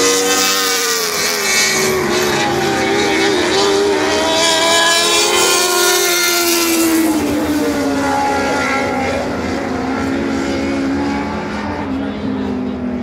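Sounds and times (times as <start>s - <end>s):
high-revving engine dropping in pitch: 0.0s - 13.0s
race car engines on dirt track: 0.0s - 13.0s.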